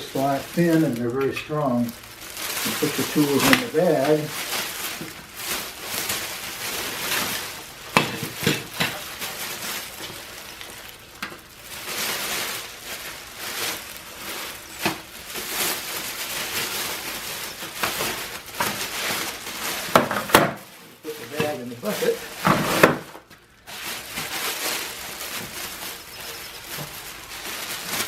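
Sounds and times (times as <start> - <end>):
plastic bag crinkling and rustling: 0.0 - 28.0.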